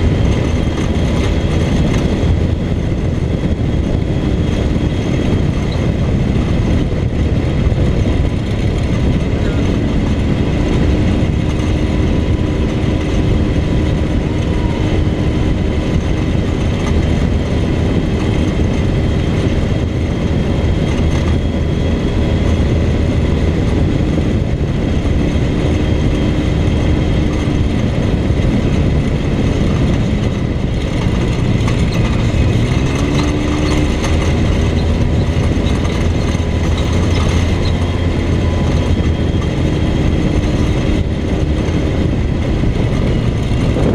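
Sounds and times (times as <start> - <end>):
tyres rumbling on dirt road: 0.0 - 43.9
vehicle engine running: 0.0 - 43.9.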